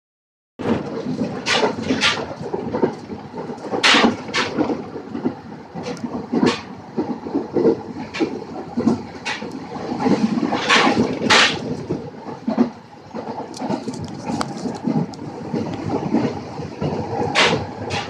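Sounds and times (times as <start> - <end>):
train interior rumble: 0.6 - 18.0.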